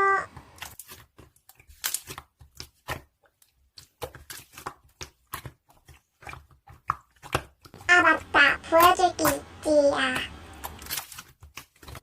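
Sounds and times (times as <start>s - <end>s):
objects clicking and tapping: 0.4s - 7.9s, 8.7s - 12.0s.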